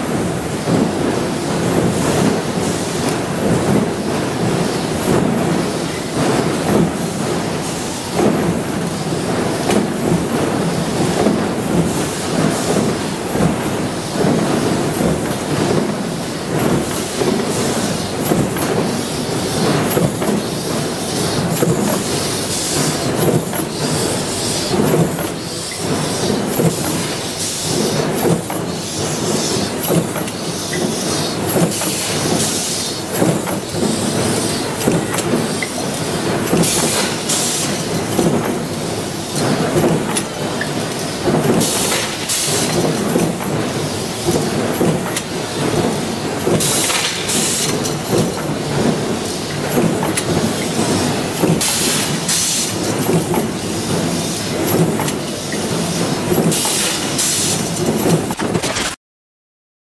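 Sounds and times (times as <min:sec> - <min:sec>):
rapid metallic machine clatter: 0:00.0 - 0:59.0.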